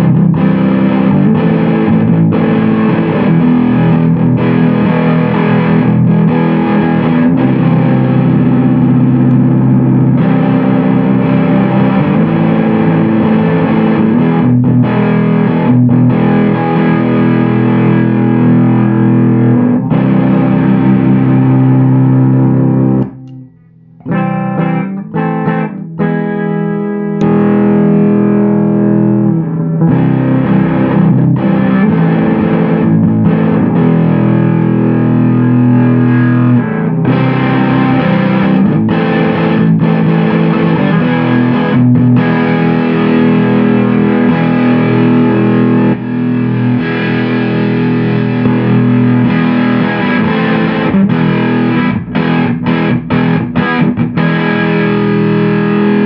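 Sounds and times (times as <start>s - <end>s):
distorted electric guitar: 0.0s - 56.0s.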